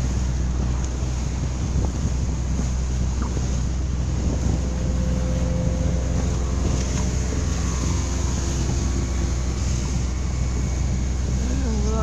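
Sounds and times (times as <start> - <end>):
motorboat engine humming: 0.0 - 12.0
water noise: 0.0 - 12.0
wind on microphone: 0.0 - 12.0.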